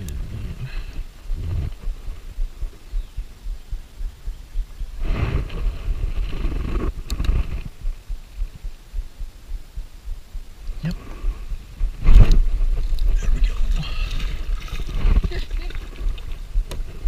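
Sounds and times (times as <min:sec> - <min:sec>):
low handling thumps: 0:00.0 - 0:13.6, 0:14.9 - 0:17.0
rustling: 0:00.0 - 0:17.0.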